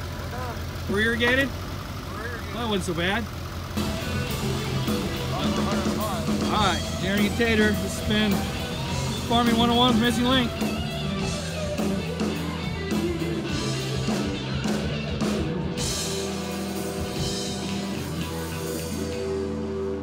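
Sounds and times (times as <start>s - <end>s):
music with drums and guitar: 3.7s - 20.0s.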